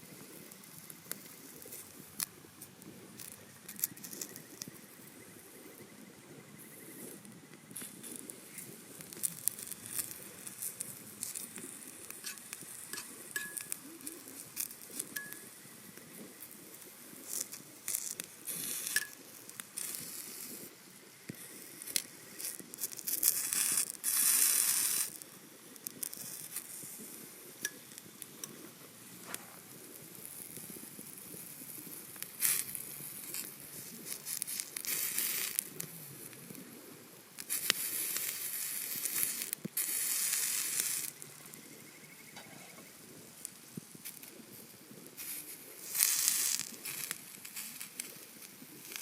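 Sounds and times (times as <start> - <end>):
sharp crackles: 0.0 - 49.0
steak sizzling on a griddle: 7.8 - 36.8, 37.4 - 49.0.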